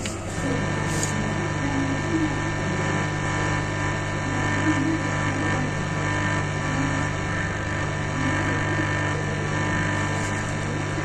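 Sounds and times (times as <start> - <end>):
speaker electrical hum and hiss: 0.0 - 11.0.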